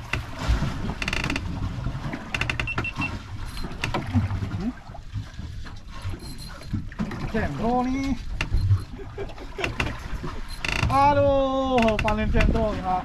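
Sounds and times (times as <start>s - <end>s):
low boat rumble: 0.0s - 13.0s.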